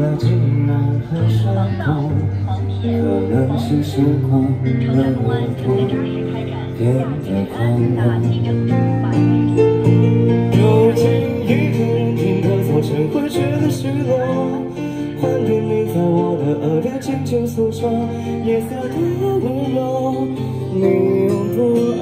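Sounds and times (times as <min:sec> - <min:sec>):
guitar: 0:00.0 - 0:22.0
keyboard: 0:00.0 - 0:22.0
person singing into microphone: 0:00.0 - 0:22.0.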